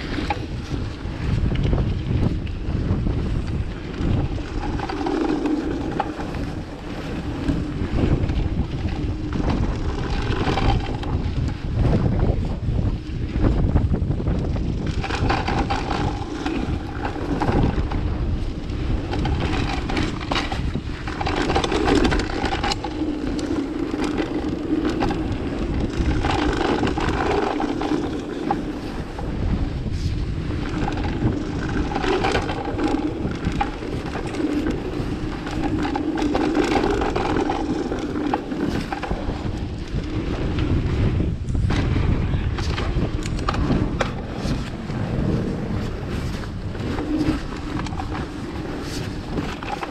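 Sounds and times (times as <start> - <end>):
bike rattling and knocking: 0.0 - 49.9
tyres rushing on dirt: 0.0 - 49.9
wind on microphone: 0.0 - 49.9.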